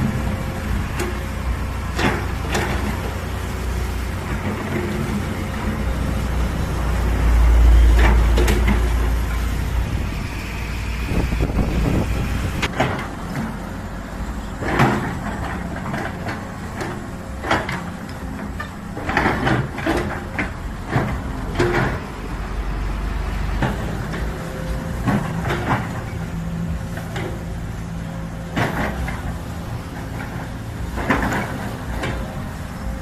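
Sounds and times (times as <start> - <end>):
excavator engine rumbling: 0.0 - 33.0.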